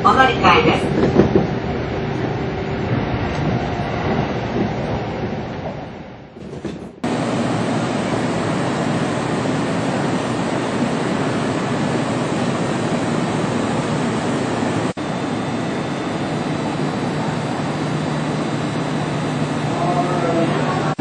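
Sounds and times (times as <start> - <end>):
train running noise from inside: 0.0 - 21.0.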